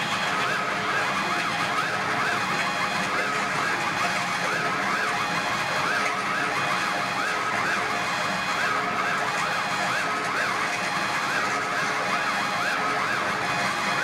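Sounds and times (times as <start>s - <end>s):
held electronic tones and noise: 0.0s - 14.0s
sweeping siren-like electronic tones: 0.0s - 14.0s.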